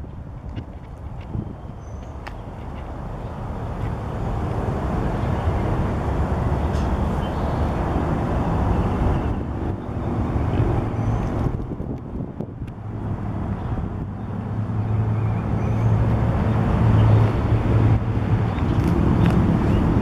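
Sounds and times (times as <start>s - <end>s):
road noise: 0.0s - 20.0s
wind noise: 0.0s - 20.0s.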